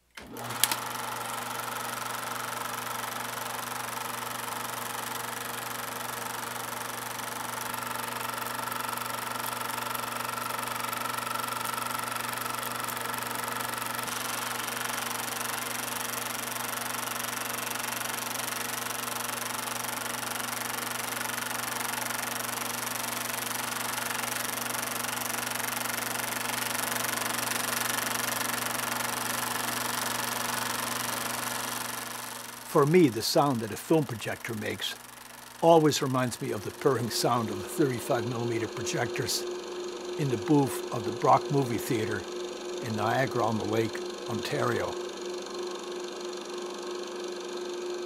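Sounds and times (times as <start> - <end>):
film projector clattering: 0.0 - 48.0
projector hum: 0.0 - 48.0.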